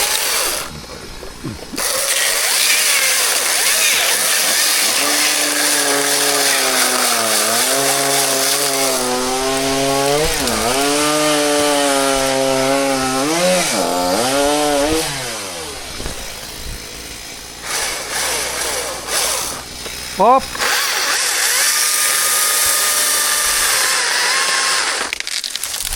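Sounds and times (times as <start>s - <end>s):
chainsaw engine winding down: 0.0s - 25.1s
chainsaw cutting wood: 0.0s - 25.9s.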